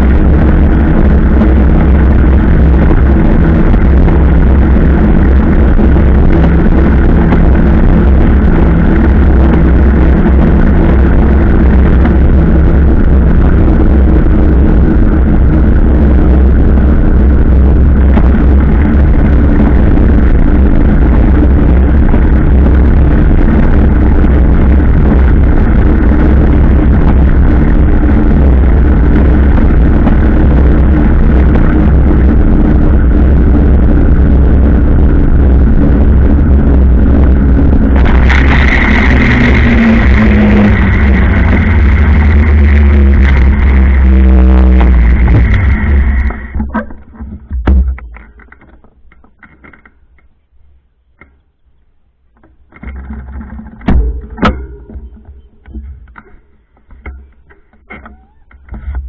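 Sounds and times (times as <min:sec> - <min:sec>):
motorcycle engine running: 0:00.0 - 0:48.5, 0:53.0 - 0:58.7.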